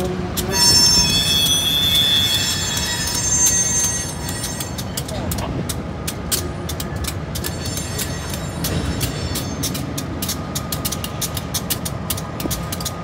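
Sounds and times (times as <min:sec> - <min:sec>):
crossing bell ringing: 0:00.0 - 0:05.3, 0:06.4 - 0:12.1
diesel locomotives rumbling: 0:00.0 - 0:13.0.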